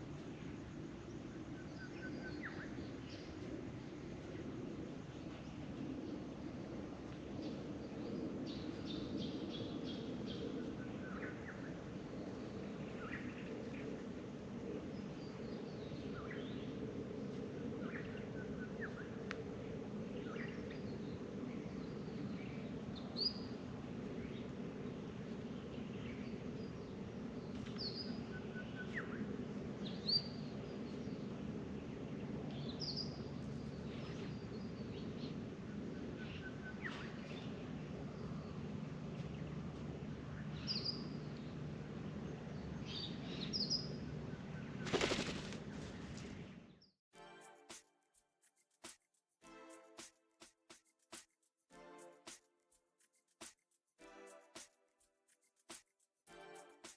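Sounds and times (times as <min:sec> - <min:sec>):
low background hum: 0:00.0 - 0:46.8.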